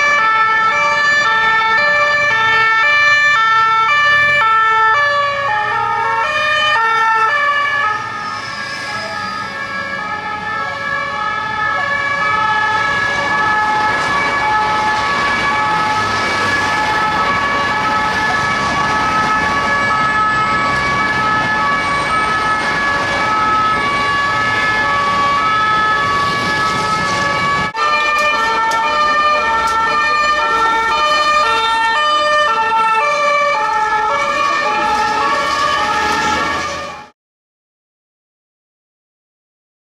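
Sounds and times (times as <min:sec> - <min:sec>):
road traffic: 0:00.0 - 0:37.2
two-tone police siren: 0:00.0 - 0:37.2.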